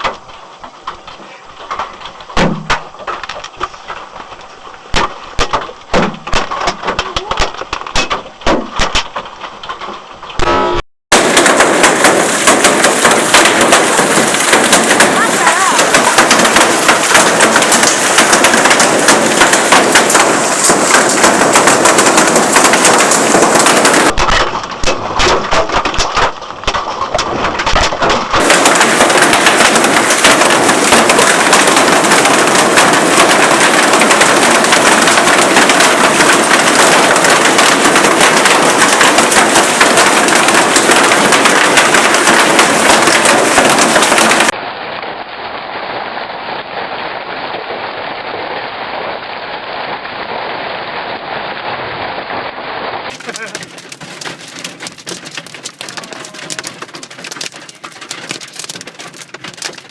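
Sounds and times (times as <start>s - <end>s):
hailstones pelting hard surfaces: 0.0s - 10.4s, 11.1s - 44.7s, 45.8s - 59.9s.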